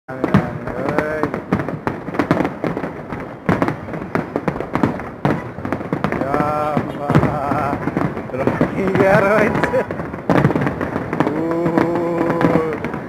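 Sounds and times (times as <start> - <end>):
fireworks bangs and crackles: 0.1 - 13.0.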